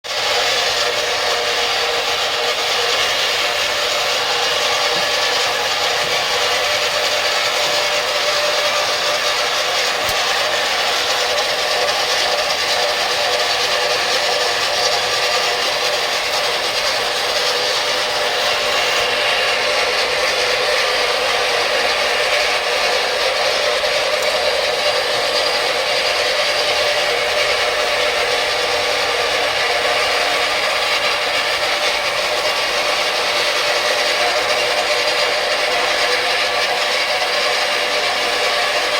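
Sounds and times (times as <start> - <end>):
floor grinding machine whining: 0.0 - 38.9.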